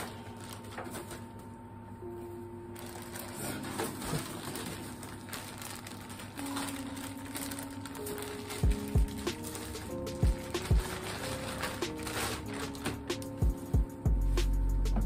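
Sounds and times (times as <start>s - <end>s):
plastic packaging crinkling: 0.0s - 1.4s, 2.8s - 13.5s.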